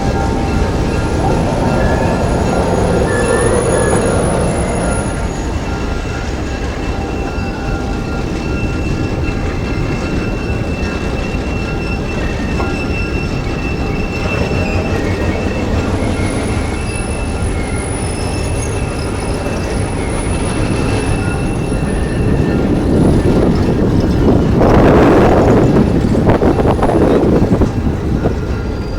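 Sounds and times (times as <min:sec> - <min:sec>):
high-pitched wheel squeal: 0:00.0 - 0:24.2
train rumbling on rails: 0:00.0 - 0:28.9.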